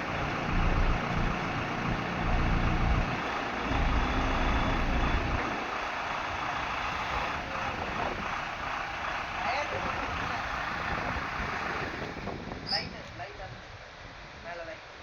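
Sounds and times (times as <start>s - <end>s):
excavator diesel engine rumbling: 0.0s - 12.7s.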